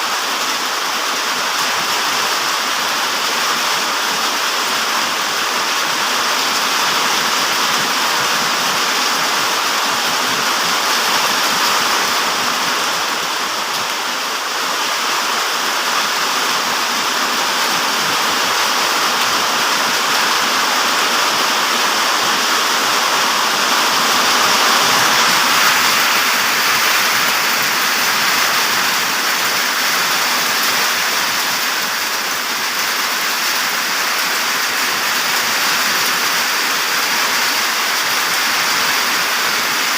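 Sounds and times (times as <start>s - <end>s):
rain in strong wind: 0.0s - 39.9s.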